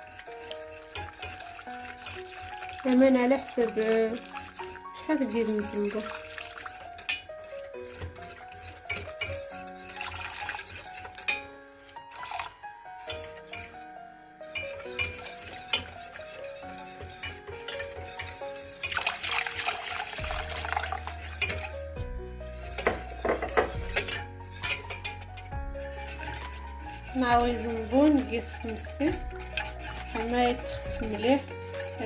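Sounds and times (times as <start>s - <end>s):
utensils clinking against a pot: 0.0s - 11.5s, 12.1s - 13.8s, 14.4s - 22.0s, 22.6s - 32.0s
background music: 0.0s - 32.0s.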